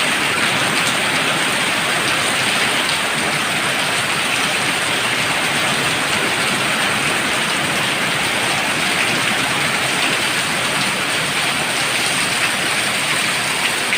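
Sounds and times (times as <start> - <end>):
heavy rain pouring: 0.0 - 13.9.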